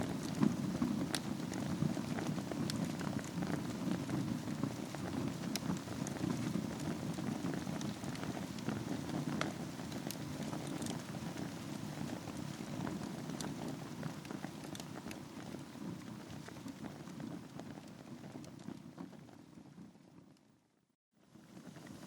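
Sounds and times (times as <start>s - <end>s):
wood fire crackling: 0.0s - 20.2s.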